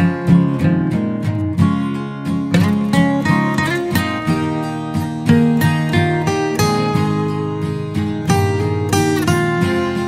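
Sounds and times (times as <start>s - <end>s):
acoustic guitar picked and strummed: 0.0s - 10.0s.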